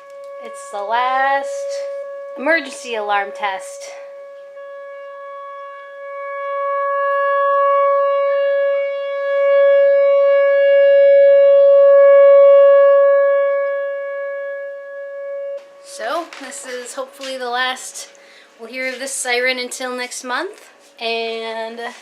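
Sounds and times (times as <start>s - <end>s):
warning siren: 0.0s - 20.1s.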